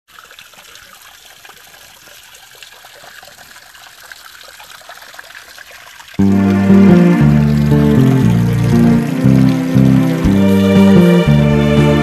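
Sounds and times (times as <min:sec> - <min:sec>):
small waterfall splashing: 0:00.1 - 0:12.0.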